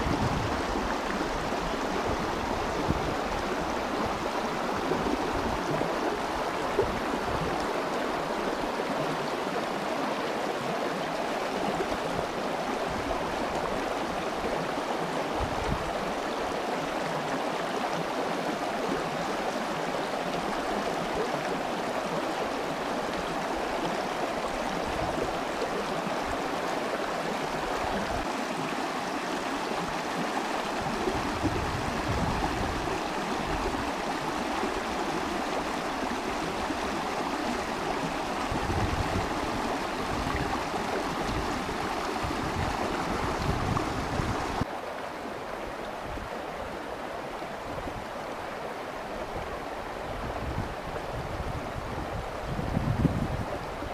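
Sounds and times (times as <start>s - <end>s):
stream flowing over stones: 0.0s - 53.9s.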